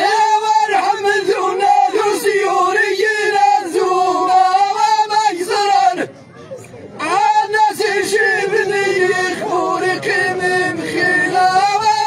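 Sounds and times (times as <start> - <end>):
men singing in unison: 0.0 - 6.1, 7.0 - 12.0.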